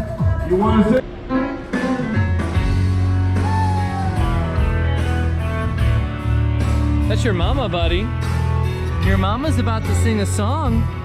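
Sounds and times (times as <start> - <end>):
rock music with bass and guitar: 0.0 - 11.0.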